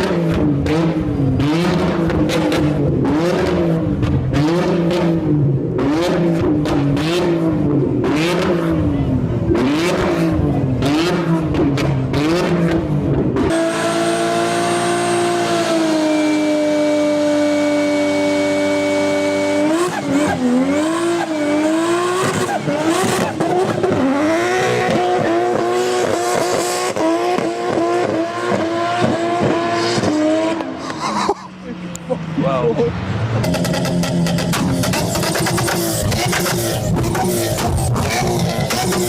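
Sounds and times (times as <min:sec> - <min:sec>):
exhaust bangs and crackles: 0:00.0 - 0:17.3, 0:18.3 - 0:39.0
car engine revving: 0:00.0 - 0:39.0.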